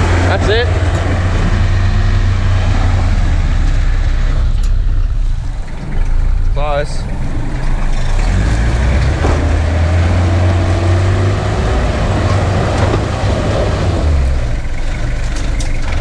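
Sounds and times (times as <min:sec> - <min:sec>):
engine pulling hard under load: 0:00.0 - 0:16.0.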